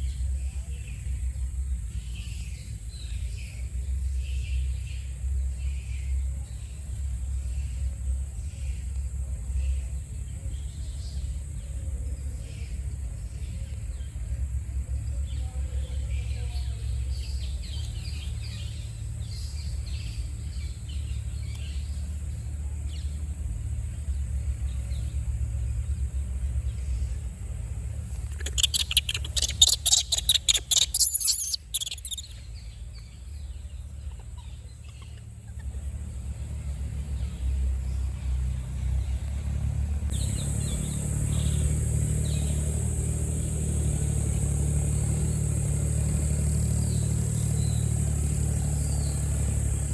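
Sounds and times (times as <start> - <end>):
steady low rumble: 0.0 - 46.3
faint chirps: 0.0 - 49.9.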